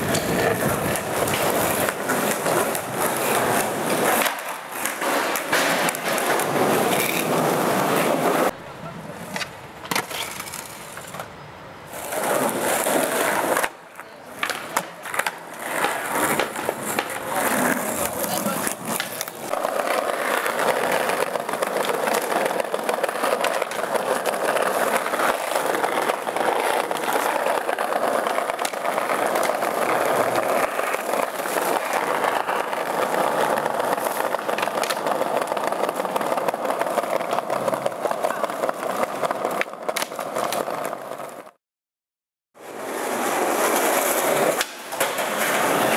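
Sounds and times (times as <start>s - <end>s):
skateboard wheels rolling on paving: 0.0s - 41.6s, 42.6s - 45.9s.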